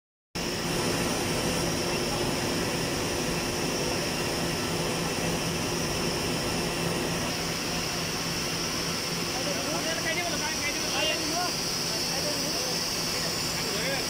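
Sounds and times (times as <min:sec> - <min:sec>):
high machine whine: 0:00.4 - 0:14.0
spinning machine hum and hiss: 0:00.4 - 0:14.0.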